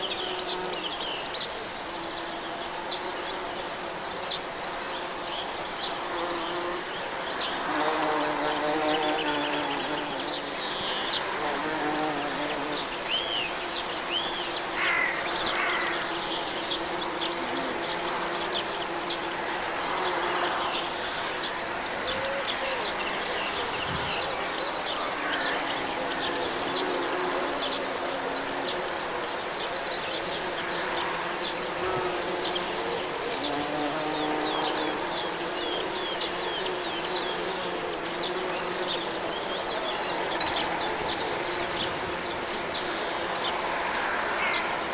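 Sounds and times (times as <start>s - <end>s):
bees buzzing: 0.0s - 44.9s.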